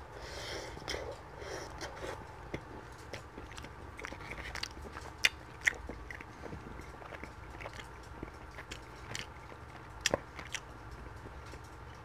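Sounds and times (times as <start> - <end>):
wet mouth clicks of chewing: 0.8 - 12.0.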